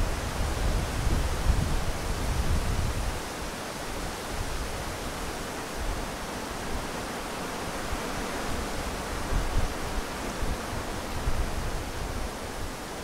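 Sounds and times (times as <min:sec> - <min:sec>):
wind rustling leaves: 0:00.0 - 0:13.0.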